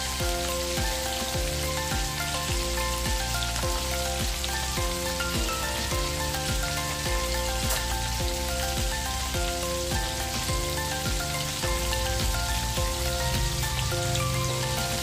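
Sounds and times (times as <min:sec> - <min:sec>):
background music with beat: 0:00.0 - 0:15.0
food deep-frying in oil: 0:00.0 - 0:15.0.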